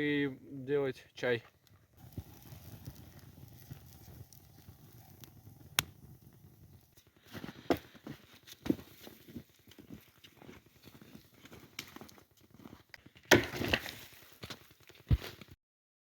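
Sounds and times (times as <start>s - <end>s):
campfire crackling and popping: 1.2s - 15.6s.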